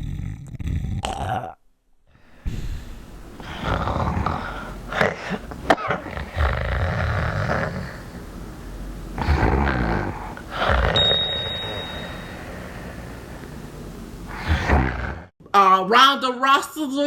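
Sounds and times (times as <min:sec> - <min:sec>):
person snoring loudly: 0:00.0 - 0:15.3.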